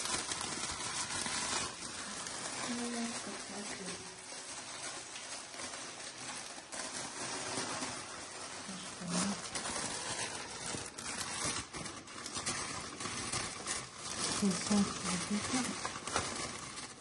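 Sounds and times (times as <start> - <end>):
cellophane crinkling: 0.0 - 17.0.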